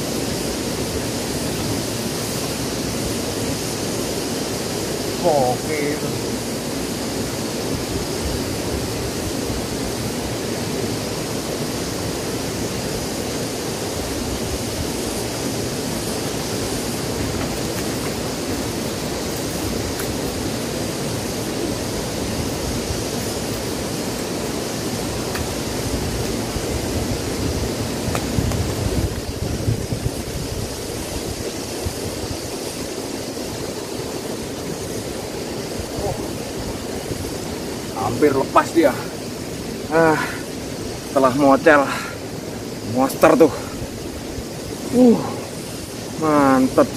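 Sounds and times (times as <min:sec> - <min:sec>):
water rushing over rocks: 0:00.0 - 0:46.9.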